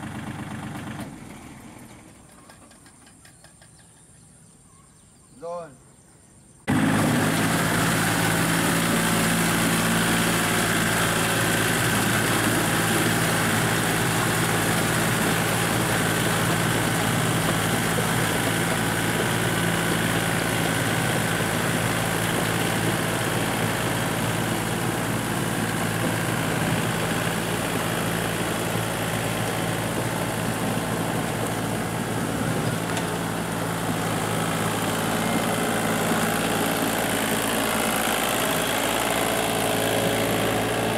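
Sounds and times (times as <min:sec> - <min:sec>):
tractor diesel engine running: 0:00.0 - 0:03.8, 0:06.7 - 0:40.9.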